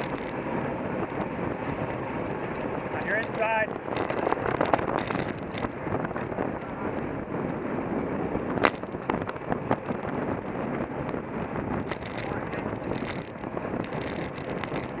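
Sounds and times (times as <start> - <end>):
bicycle rattling over road: 0.0 - 15.0
wind on microphone: 0.0 - 15.0.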